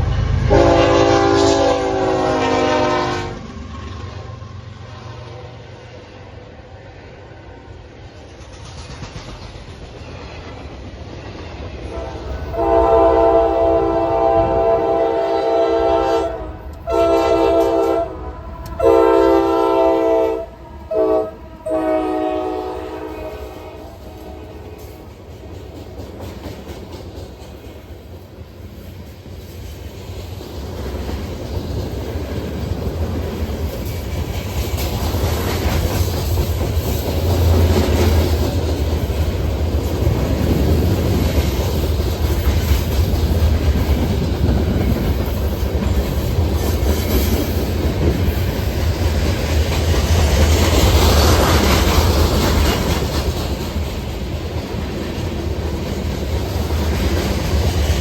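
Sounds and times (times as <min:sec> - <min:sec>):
freight train wheels clattering: 0:08.0 - 0:21.8, 0:22.4 - 0:58.0.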